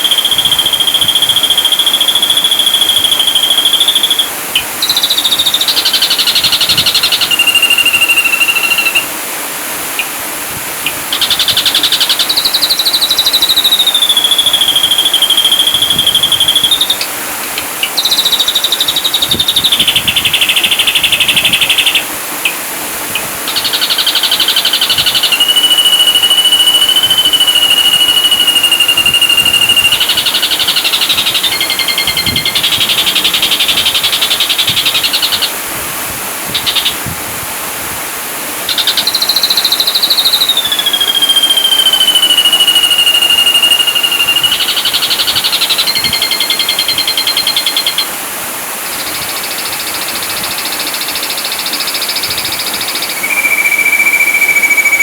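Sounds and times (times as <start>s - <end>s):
bird long whistles: 0.0s - 9.1s, 11.1s - 17.1s, 17.8s - 22.1s, 23.5s - 35.6s, 36.5s - 37.0s, 38.7s - 48.1s, 48.9s - 55.0s
bird buzzy trills: 0.0s - 9.2s, 10.8s - 22.6s, 23.2s - 35.6s, 36.4s - 37.1s, 38.6s - 48.1s, 48.8s - 55.0s.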